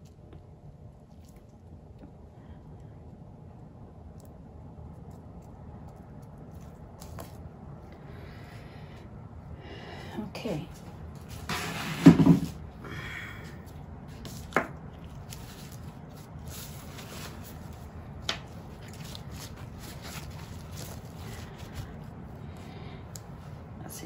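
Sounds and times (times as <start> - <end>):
faint room noise: 0.0 - 24.0.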